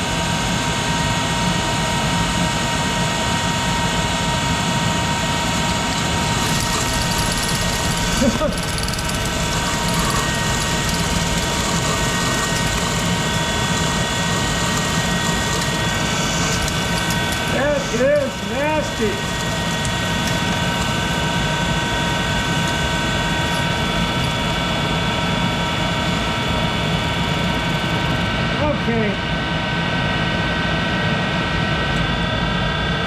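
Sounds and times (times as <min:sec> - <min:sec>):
lathe running with whine: 0:00.0 - 0:28.4.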